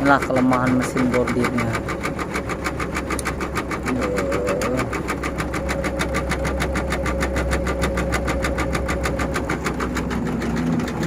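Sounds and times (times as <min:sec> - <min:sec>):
faint steady machine whine: 0:00.0 - 0:11.0.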